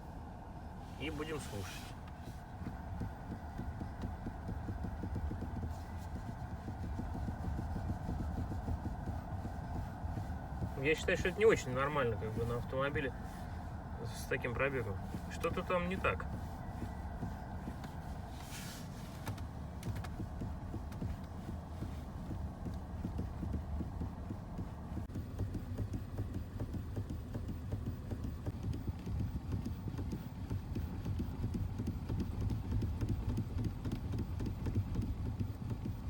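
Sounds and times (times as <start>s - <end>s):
low hum: 0.0s - 29.0s
steering joints knocking: 1.0s - 36.0s.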